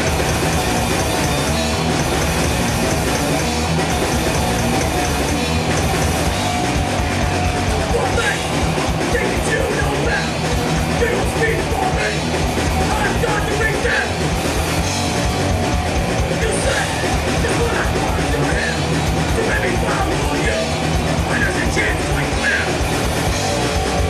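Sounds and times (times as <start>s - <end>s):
heavy metal band playing: 0.0s - 24.0s.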